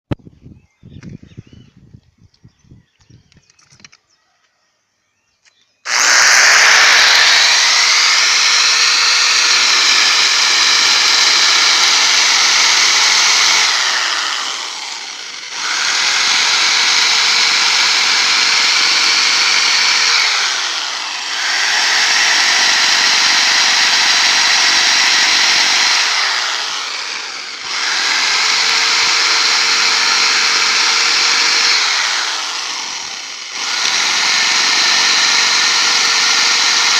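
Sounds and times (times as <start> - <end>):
electric drill running: 5.8 - 36.9.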